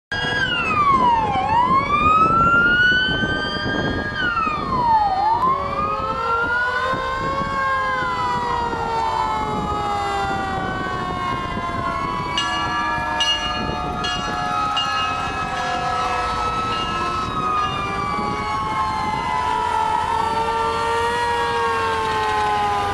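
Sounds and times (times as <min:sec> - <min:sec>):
emergency sirens wailing: 0:00.1 - 0:22.9.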